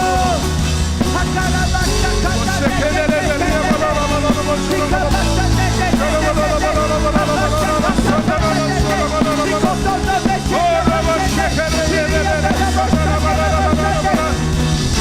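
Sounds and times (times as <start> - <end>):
live worship band playing: 0.0 - 15.0
voices singing: 0.0 - 15.0.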